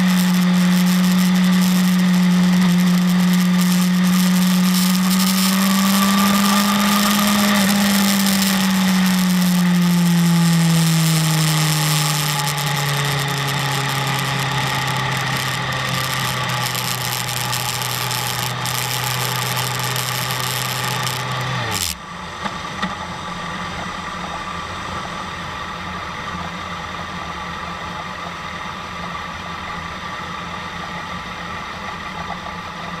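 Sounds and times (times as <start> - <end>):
quiet steady engine hum: 0.0 - 33.0.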